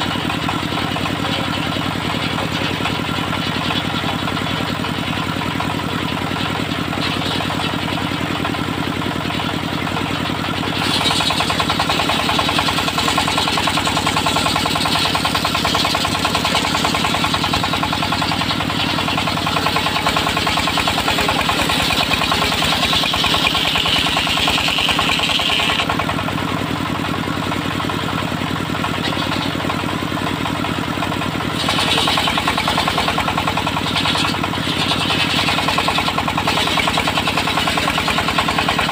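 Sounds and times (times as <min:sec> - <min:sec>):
saw blade cutting log: 0:00.0 - 0:27.2, 0:28.7 - 0:38.9
sawmill engine running: 0:00.0 - 0:38.9.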